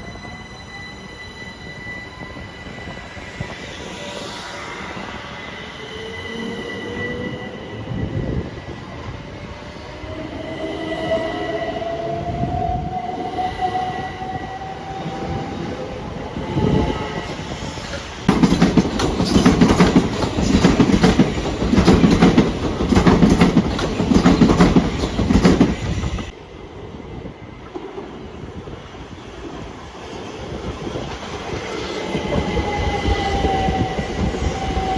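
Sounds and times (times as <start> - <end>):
loud pulsing train noise: 0.0 - 34.9
train whine and squeal: 0.0 - 34.9.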